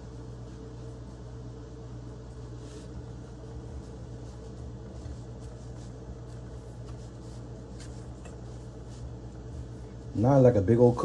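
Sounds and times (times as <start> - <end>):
hand patting and brushing: 0.0 - 10.4
steady low hum: 0.0 - 11.0.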